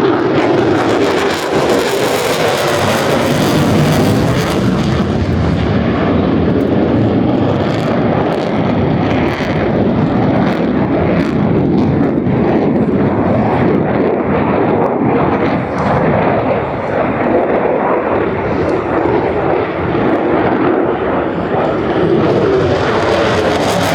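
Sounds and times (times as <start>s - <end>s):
airplane engine overhead: 0.0s - 23.9s.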